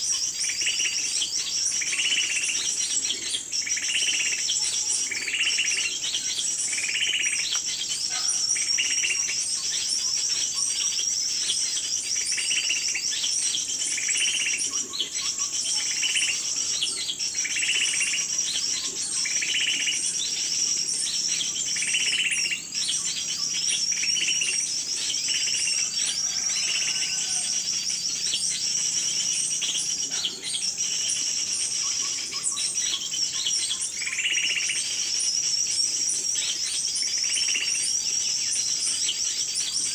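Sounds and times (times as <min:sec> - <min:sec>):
lower bird call: 0:00.0 - 0:39.9
small birds twittering: 0:00.0 - 0:39.9.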